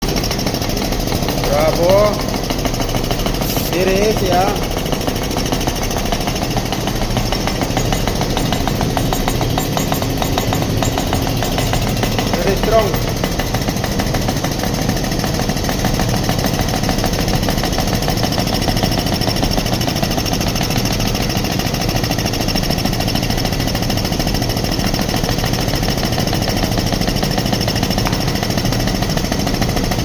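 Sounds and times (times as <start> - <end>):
pneumatic air hammer hammering: 0.0 - 30.0.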